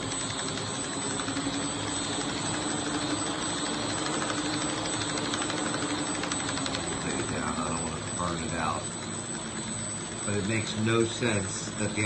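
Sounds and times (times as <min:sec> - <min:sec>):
clatter of spinning parts: 0:00.0 - 0:12.0
electric motor whirring: 0:00.0 - 0:12.0.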